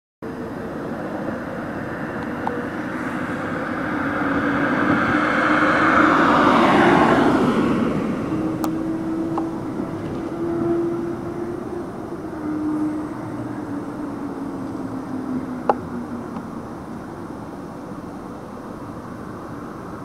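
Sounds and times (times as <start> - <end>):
car driving past: 0.8 - 17.0.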